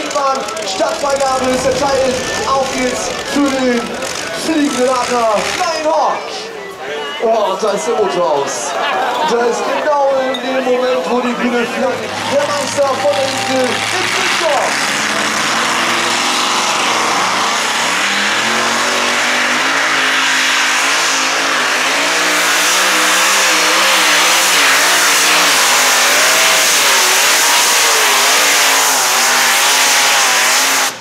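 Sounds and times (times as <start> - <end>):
tractor engines running flat out: 0.0 - 7.7, 9.0 - 31.0.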